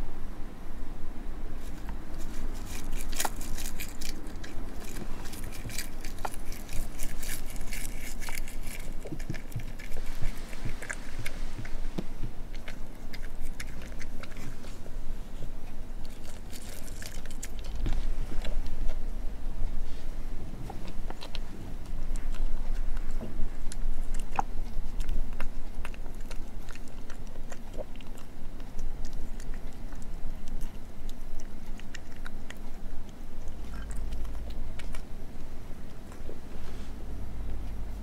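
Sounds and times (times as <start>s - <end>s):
cat chewing and licking: 1.6s - 38.0s.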